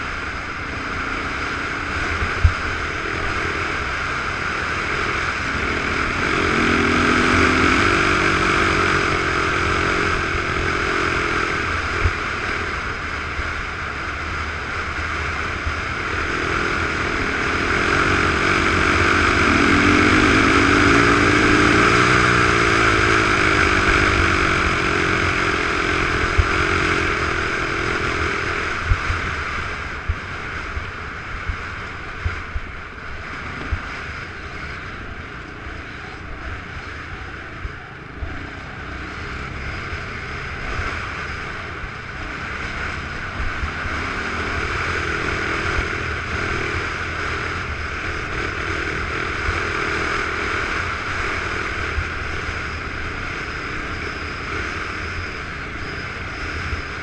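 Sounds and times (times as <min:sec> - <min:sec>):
off-road vehicle engine revving: 0:00.0 - 0:57.0
steady rushing noise: 0:00.0 - 0:57.0.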